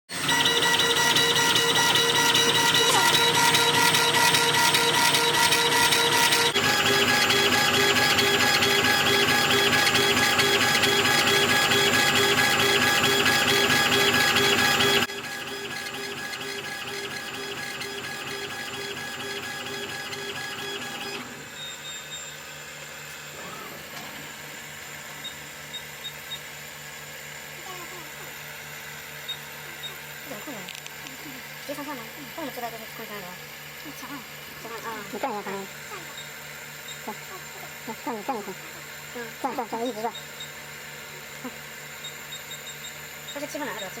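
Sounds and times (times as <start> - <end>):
stepper motors whining: 0.1 - 44.0.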